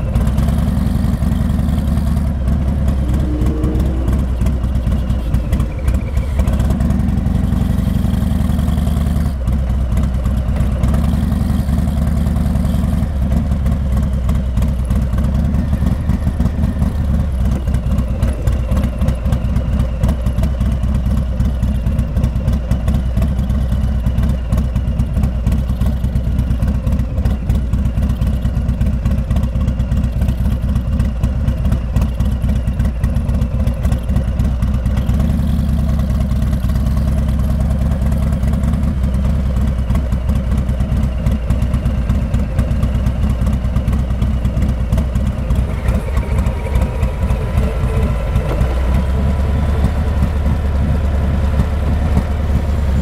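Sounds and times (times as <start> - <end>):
motorcycle engine loping exhaust beat: 0.0 - 53.0.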